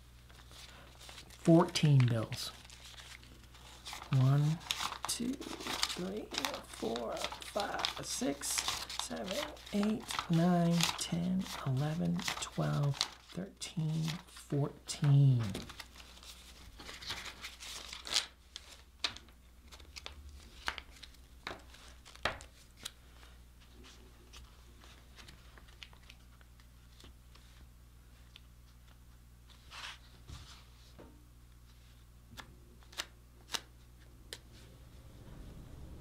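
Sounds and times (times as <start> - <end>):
banknotes rustling and crinkling: 0.2 - 31.0.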